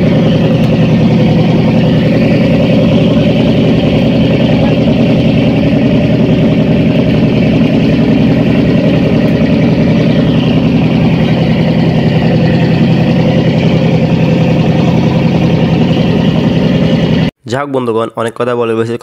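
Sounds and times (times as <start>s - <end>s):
boat engine running: 0.0s - 17.4s.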